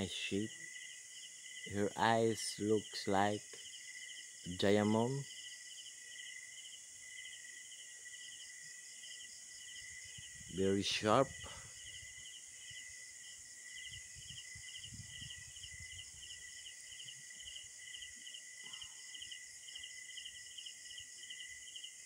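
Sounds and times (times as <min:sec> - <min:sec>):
insects pulsed chirping: 0:00.0 - 0:22.0
steady high insect drone: 0:00.0 - 0:22.0.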